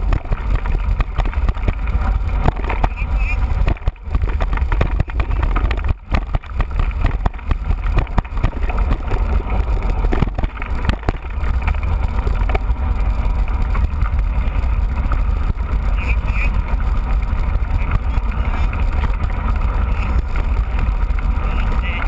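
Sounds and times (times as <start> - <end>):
bike knocks and rattles: 0.0 - 22.0
wind buffeting microphone: 0.0 - 22.0.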